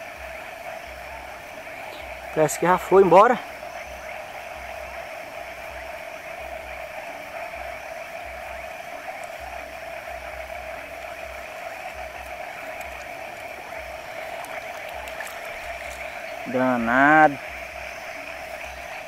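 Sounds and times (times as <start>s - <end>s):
continuous hiss and hum: 0.0s - 19.0s.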